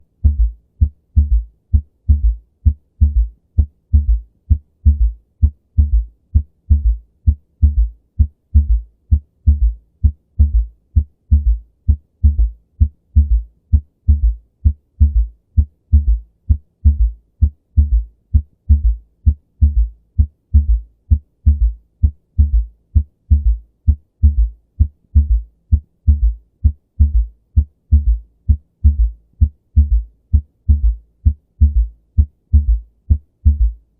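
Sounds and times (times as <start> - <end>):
heartbeat with low thuds: 0.0 - 33.9.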